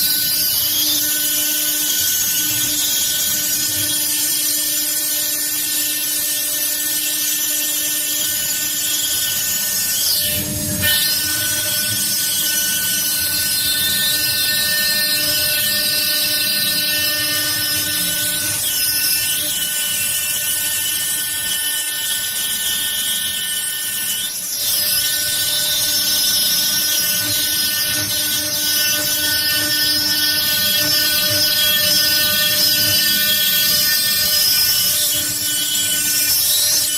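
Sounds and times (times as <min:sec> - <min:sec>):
cutter grinding stone: 0:00.0 - 0:36.9.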